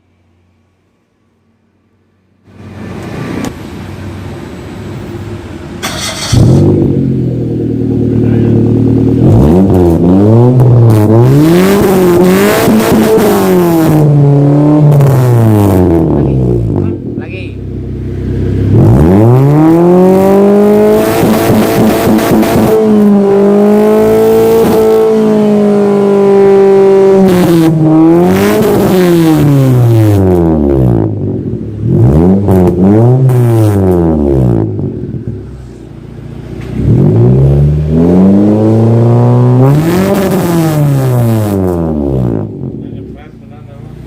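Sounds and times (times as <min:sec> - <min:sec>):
car engine revving: 0:01.6 - 0:44.0.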